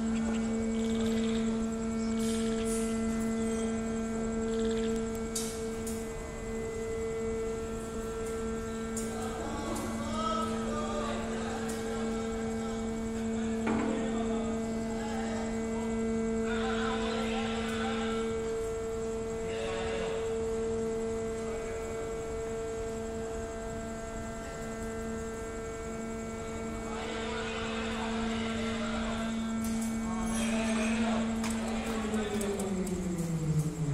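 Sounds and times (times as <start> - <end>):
machinery electric hum: 0.0 - 33.9.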